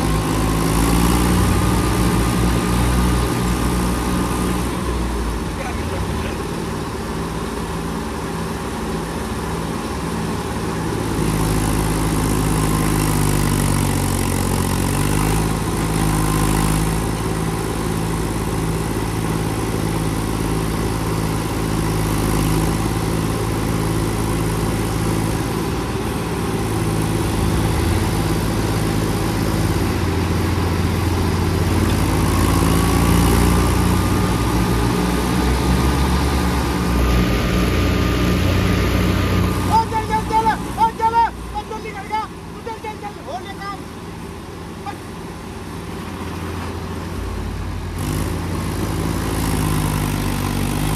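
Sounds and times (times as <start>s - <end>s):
tractor diesel engines straining: 0.0s - 50.9s.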